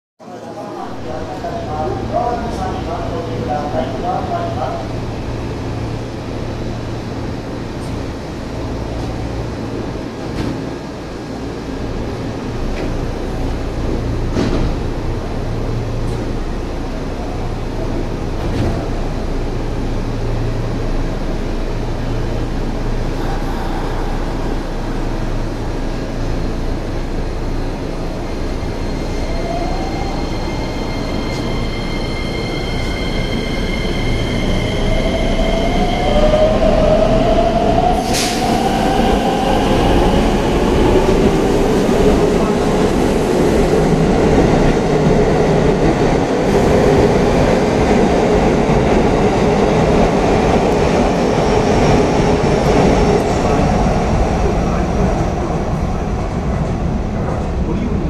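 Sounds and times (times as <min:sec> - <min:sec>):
train wheels rumbling on rails: 0:05.2 - 0:58.0.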